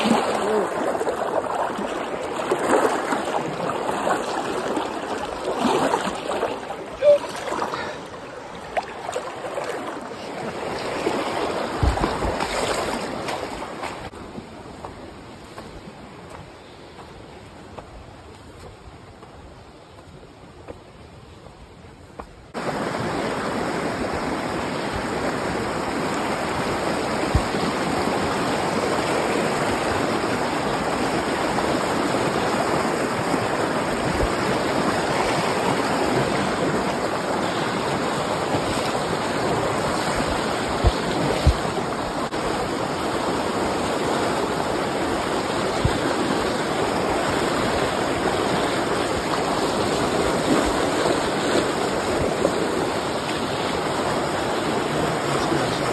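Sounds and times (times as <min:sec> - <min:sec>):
creek rushing over rocks: 0:00.0 - 0:55.9.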